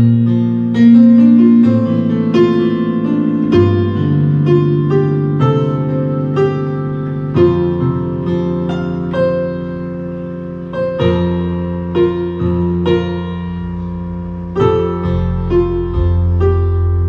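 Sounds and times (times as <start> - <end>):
held low bass notes: 0.0 - 17.0
slow keyboard piano passage: 0.0 - 17.0.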